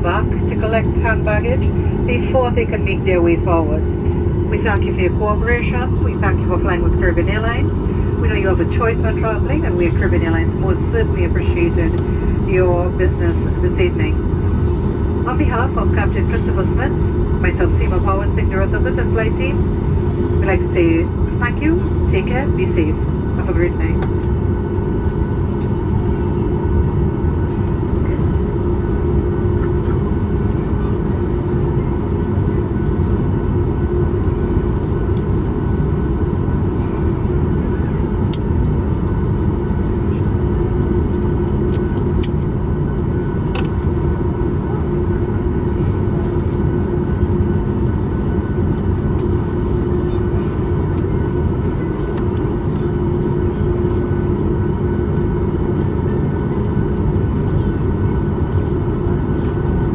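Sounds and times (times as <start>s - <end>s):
jet engines idling hum: 0.0s - 59.9s.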